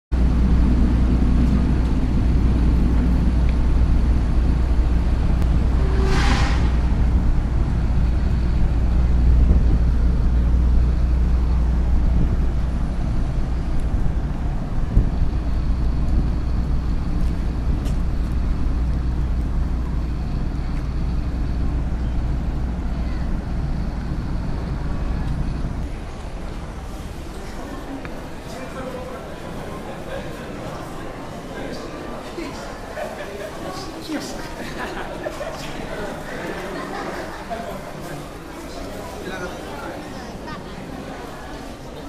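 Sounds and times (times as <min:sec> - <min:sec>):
ship engines rumbling: 0:00.1 - 0:42.0.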